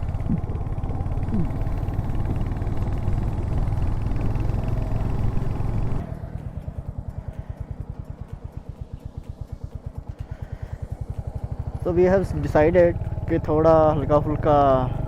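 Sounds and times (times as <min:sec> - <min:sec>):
motorcycle engine running and idling: 0:00.0 - 0:15.0.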